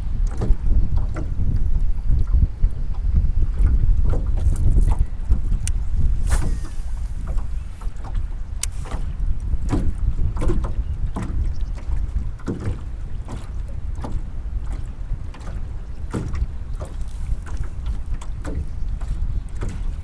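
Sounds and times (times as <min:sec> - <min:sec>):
gear knocking in a boat: 0:00.0 - 0:20.0
wind buffeting microphone: 0:00.0 - 0:20.0.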